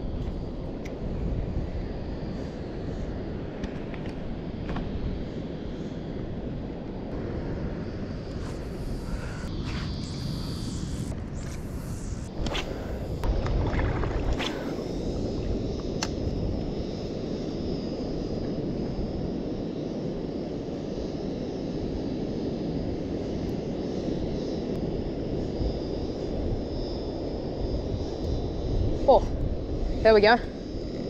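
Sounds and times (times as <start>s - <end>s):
wind buffeting microphone: 0.0s - 20.9s, 22.0s - 31.0s.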